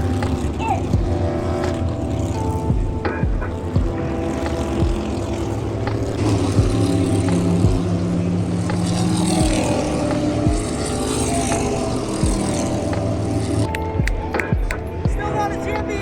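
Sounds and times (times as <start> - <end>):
low thumps: 0.0 - 15.4
race car engines droning: 0.0 - 16.0.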